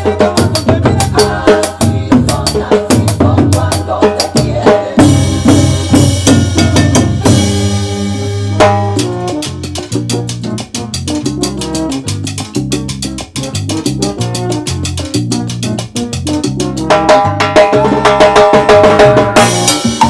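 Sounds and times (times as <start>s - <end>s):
salsa band music: 0.0s - 20.0s
timbales and cowbell drumming: 0.0s - 20.0s.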